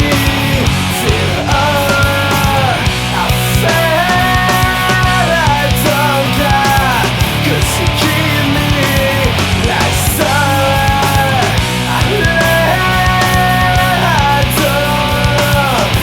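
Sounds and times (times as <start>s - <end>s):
loud nu metal band: 0.0s - 16.0s.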